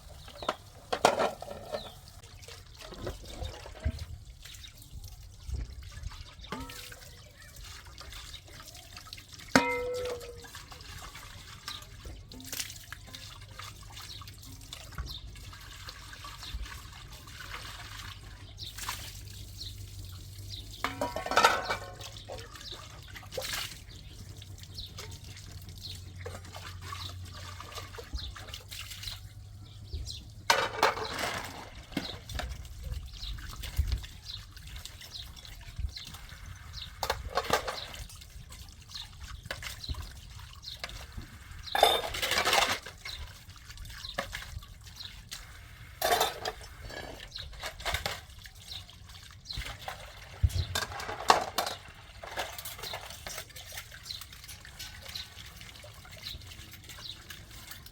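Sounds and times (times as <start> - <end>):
water splashing and pouring: 0.0 - 57.9
water trickling and dripping: 0.0 - 57.9.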